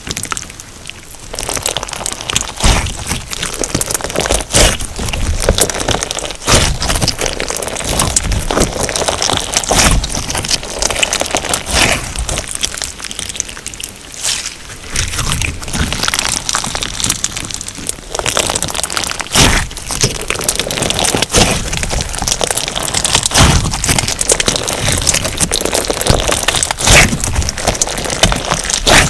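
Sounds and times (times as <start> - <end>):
slime crackling and popping: 0.0 - 29.0.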